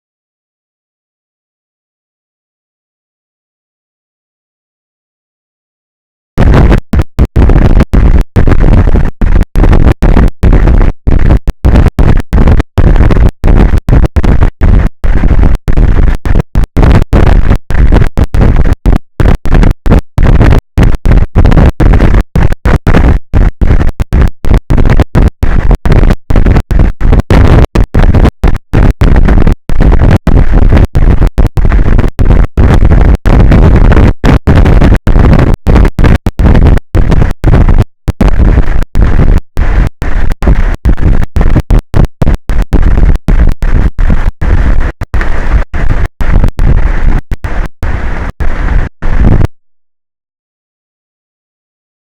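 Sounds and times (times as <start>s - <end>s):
wind blasting microphone: 6.4s - 49.6s.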